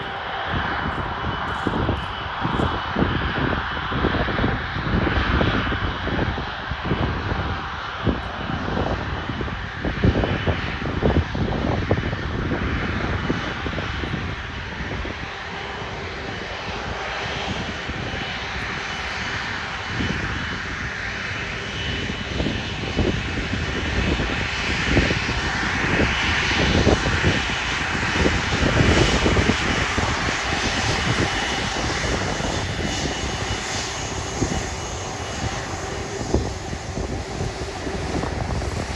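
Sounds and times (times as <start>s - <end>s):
jet engines whining: 0.0s - 38.9s
wind buffeting microphone: 0.0s - 38.9s.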